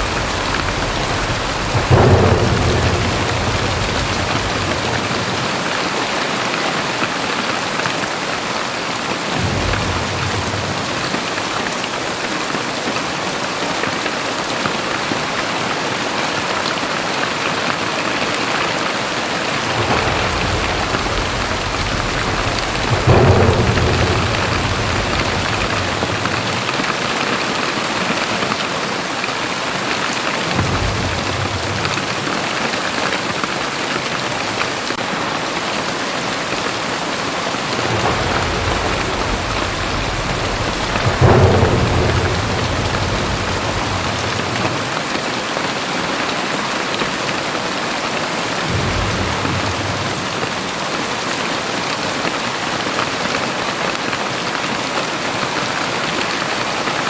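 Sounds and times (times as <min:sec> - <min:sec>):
thunder rumbling: 0:00.0 - 0:07.5, 0:09.0 - 0:14.0, 0:17.4 - 0:28.6, 0:29.3 - 0:46.3, 0:48.0 - 0:53.3
heavy rain pouring: 0:00.0 - 0:57.0.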